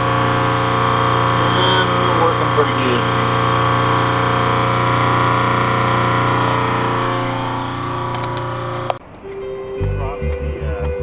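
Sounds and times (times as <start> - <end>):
electric motor and pump humming: 0.0 - 9.0.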